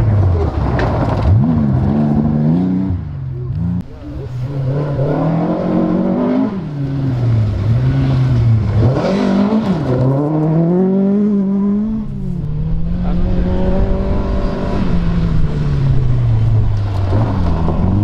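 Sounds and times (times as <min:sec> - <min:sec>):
gravel crackling: 0:00.0 - 0:10.8, 0:11.6 - 0:18.0
rally car engine revving: 0:00.0 - 0:18.0.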